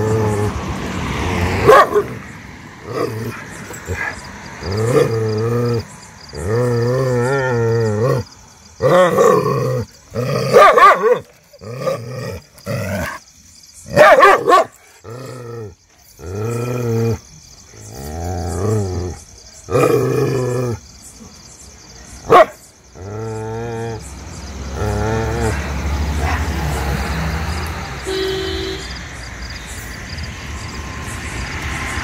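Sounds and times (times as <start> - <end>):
dog barking and growling: 0.0 - 13.2, 13.8 - 20.8, 22.2 - 27.6.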